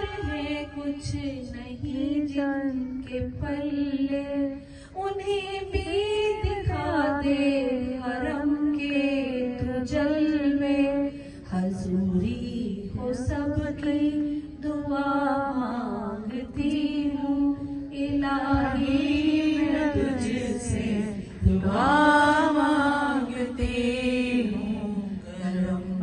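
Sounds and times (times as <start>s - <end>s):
woman chanting unaccompanied: 0.0s - 26.0s.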